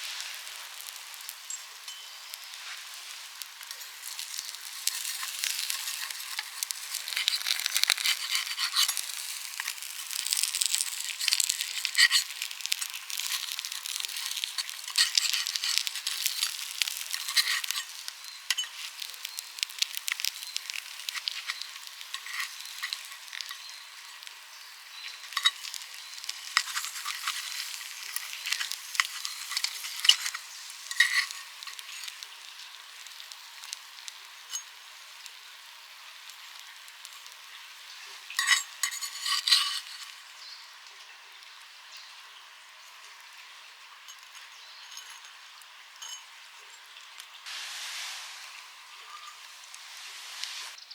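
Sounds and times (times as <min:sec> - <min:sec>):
food sizzling in frying pan: 0:00.0 - 0:50.9.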